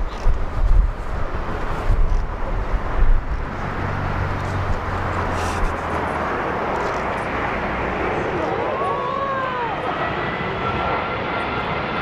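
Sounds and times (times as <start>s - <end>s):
wind buffeting microphone: 0.0s - 10.8s
jet airliner engines rushing: 0.0s - 12.0s.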